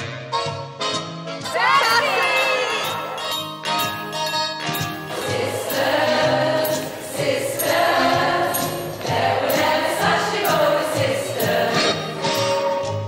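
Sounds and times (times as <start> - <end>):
song with singing voices: 1.5 - 4.0, 4.8 - 13.0.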